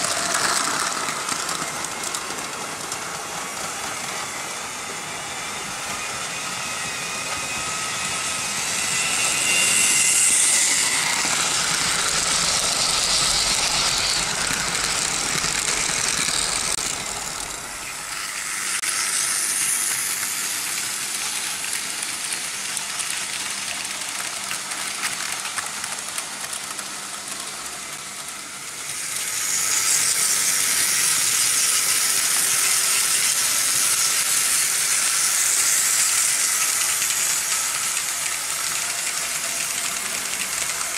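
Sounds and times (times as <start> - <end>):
model train wheels rattling on track: 0.0 - 40.9.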